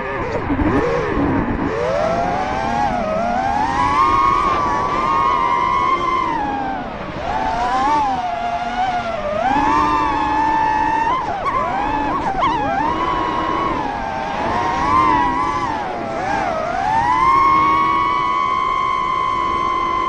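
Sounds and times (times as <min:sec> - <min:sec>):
small motor whining: 0:00.0 - 0:20.0.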